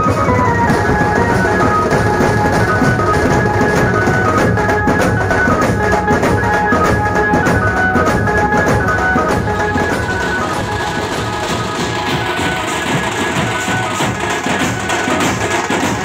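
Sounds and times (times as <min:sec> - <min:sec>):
high melody line: 0:00.0 - 0:15.5
bass drums and snare drums: 0:00.0 - 0:16.0.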